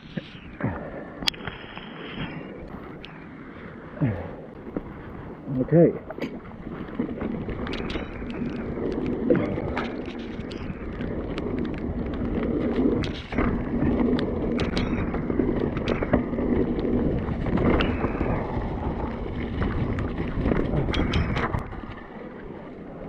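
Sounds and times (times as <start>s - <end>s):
bike tyres on rough trail: 0.0s - 23.0s
wind buffeting microphone: 0.0s - 23.0s
bike knocking and rattling: 4.1s - 23.0s.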